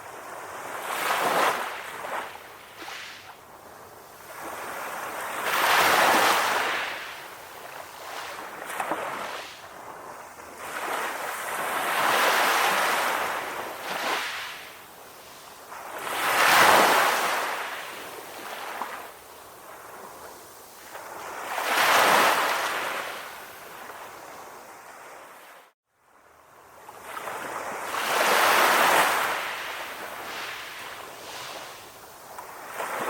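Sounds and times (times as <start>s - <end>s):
sea waves washing onto shore: 0.0s - 25.8s, 26.9s - 33.0s.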